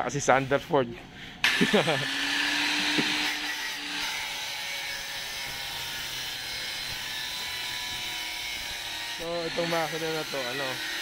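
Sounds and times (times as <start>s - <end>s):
angle grinder grinding metal: 1.4s - 11.0s.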